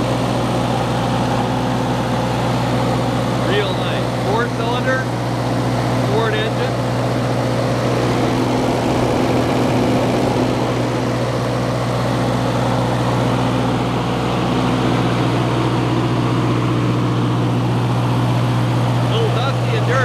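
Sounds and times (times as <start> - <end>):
generator engine humming: 0.0 - 20.0.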